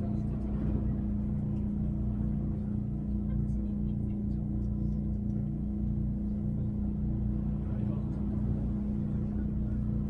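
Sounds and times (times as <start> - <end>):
tram hum and rumble: 0.0 - 10.0.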